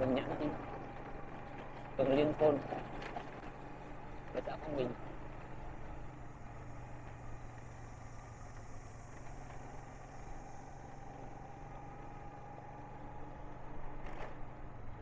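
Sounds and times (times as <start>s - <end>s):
faint steady whine: 0.0s - 15.0s
road noise: 0.0s - 15.0s
vehicle engine hum: 0.0s - 15.0s.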